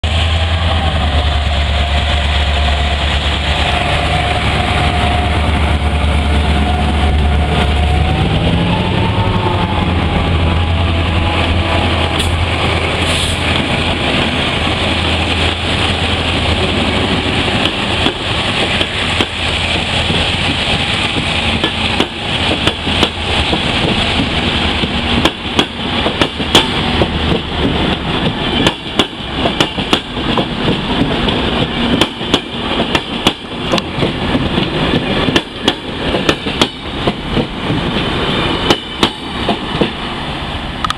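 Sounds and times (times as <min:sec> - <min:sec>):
locomotive engine drone: 0:00.0 - 0:32.0, 0:32.6 - 0:40.9
train wheels rushing: 0:00.0 - 0:40.9.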